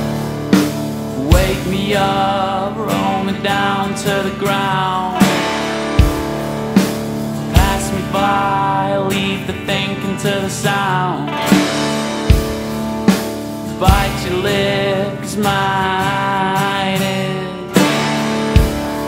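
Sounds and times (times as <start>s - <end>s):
blues-rock band music: 0.0s - 19.0s.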